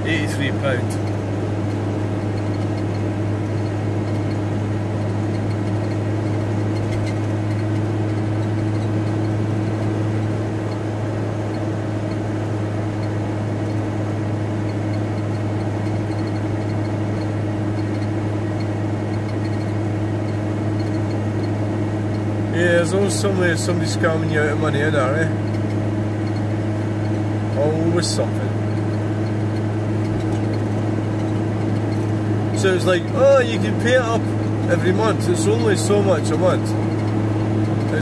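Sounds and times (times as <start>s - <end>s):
van engine and road noise: 0.0s - 38.0s.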